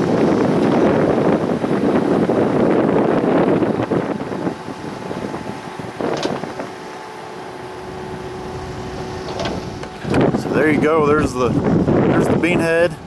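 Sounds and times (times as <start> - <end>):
faint engine hum: 0.0 - 13.0
wind buffeting microphone: 0.0 - 13.0.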